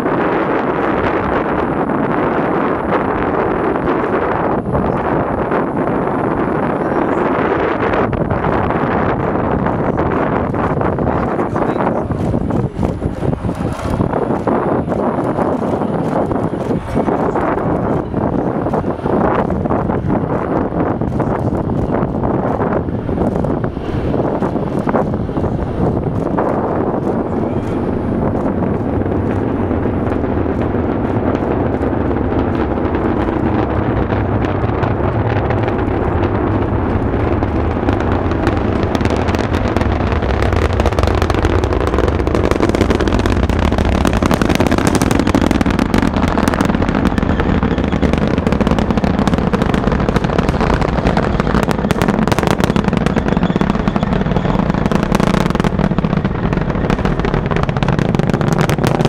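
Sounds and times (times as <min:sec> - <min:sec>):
distant rocket engines rumble: 0:00.0 - 0:59.0
rocket engine crackle: 0:00.0 - 0:59.0.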